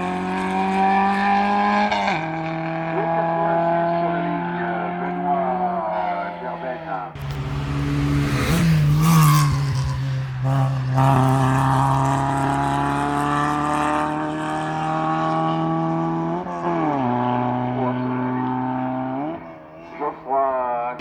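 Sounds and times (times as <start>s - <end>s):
race car engine at high revs: 0.0s - 20.3s.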